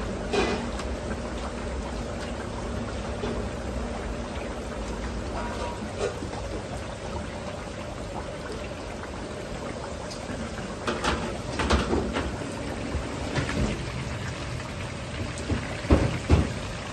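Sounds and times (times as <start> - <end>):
chicken deep-frying in oil: 0.0 - 16.9.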